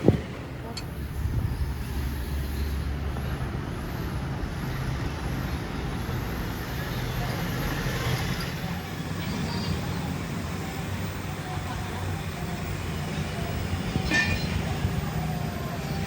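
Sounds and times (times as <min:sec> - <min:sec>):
motor vehicle noise: 0:00.0 - 0:16.0.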